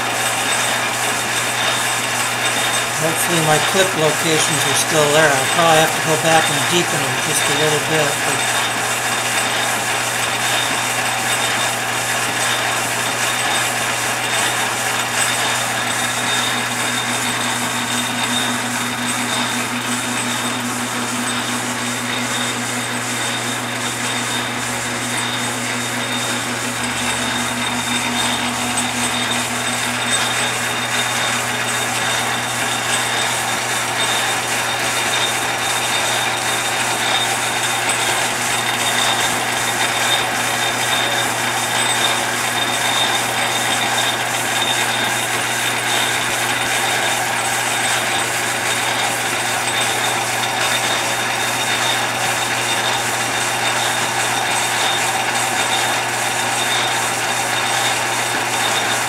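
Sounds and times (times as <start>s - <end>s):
metal lathe running: 0.1s - 59.0s.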